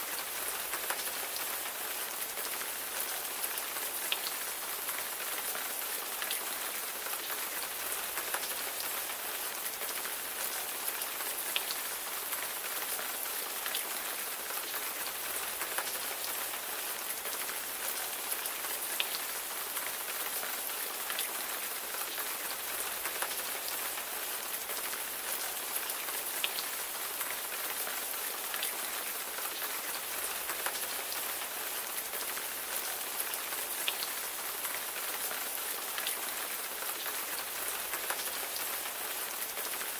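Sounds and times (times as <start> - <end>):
rain falling: 0.0 - 39.9
raindrops ticking on a surface: 0.0 - 39.9.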